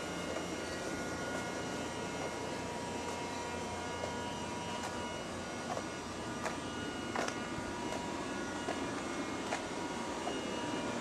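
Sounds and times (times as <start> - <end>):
faint street background: 0.0 - 11.0
steady hum with high whining tones: 0.0 - 11.0.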